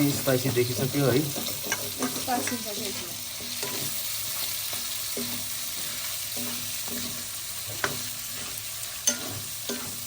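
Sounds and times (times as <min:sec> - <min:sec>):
chicken sizzling in a pan: 0:00.0 - 0:10.0
spoon scraping a pan: 0:00.0 - 0:10.0.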